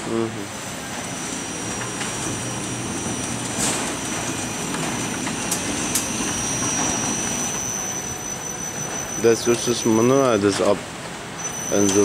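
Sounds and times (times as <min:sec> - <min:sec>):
machinery hum with high whine: 0:00.0 - 0:12.0.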